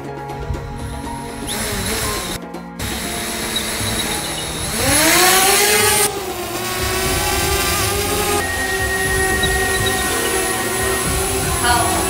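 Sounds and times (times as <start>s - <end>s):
drone motors whining: 1.2s - 12.0s.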